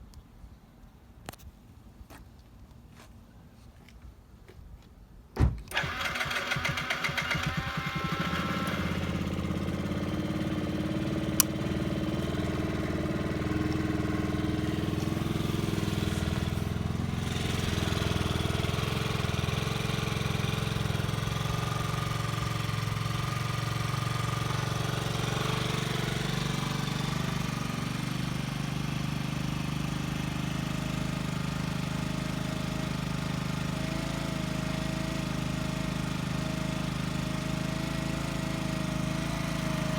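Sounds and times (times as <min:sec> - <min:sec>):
scooter engine idling: 0:05.7 - 0:39.9.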